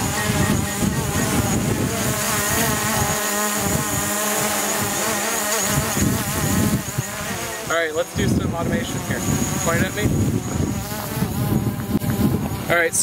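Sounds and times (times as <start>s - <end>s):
quadcopter propellers buzzing: 0.0s - 13.0s
strong wind: 0.0s - 13.0s.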